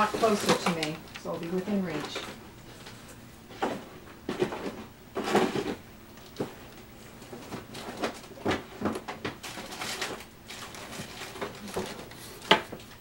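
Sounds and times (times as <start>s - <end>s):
rummaging through art supplies: 0.0s - 12.9s.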